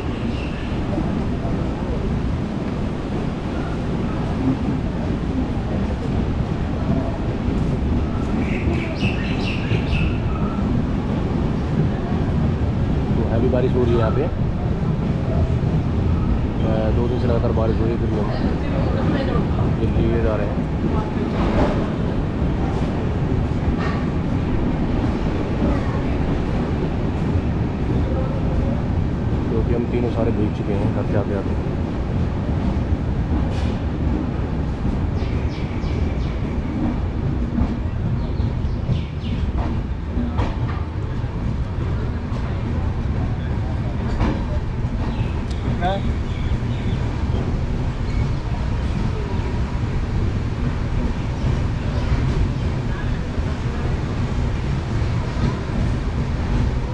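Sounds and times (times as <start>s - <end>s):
train wheels on rails: 0.0s - 56.9s.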